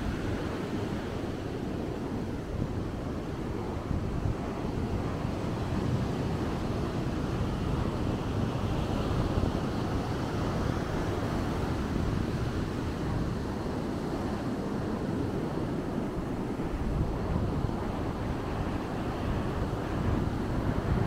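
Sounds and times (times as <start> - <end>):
surf on a sandy beach: 0.0 - 21.0
wind buffeting microphone: 0.0 - 21.0.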